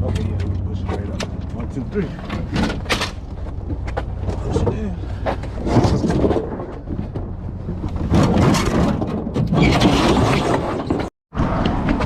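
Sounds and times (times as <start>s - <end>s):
refrigerator scraping and rumbling: 0.0s - 12.0s.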